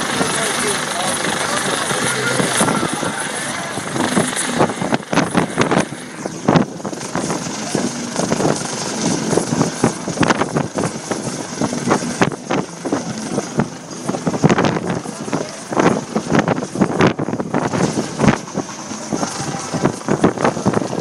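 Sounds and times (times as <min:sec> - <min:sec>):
helicopter hovering: 0:00.0 - 0:21.0
wind buffeting microphone: 0:00.0 - 0:21.0.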